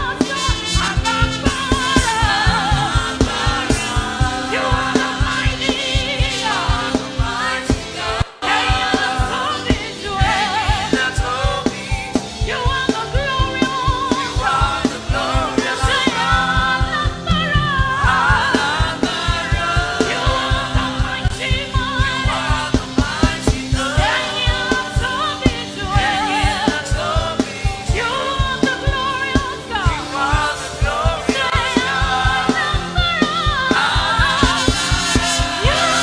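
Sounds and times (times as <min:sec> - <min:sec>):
band playing: 0:00.0 - 0:36.0
gospel singing: 0:00.0 - 0:36.0.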